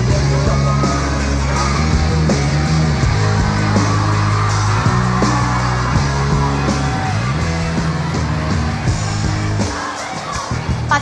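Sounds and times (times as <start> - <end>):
sustained bass notes: 0.0 - 9.6
steady drum beat: 0.0 - 11.0.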